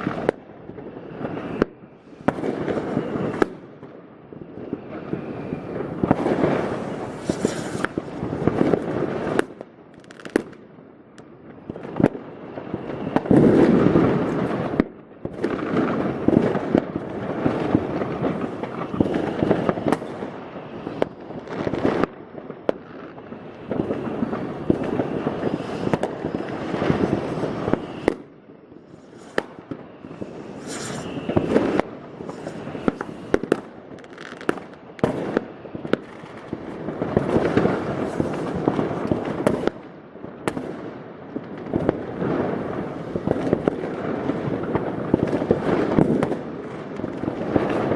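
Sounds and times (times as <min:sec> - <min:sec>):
fireworks bangs and crackle: 0:00.0 - 0:47.9.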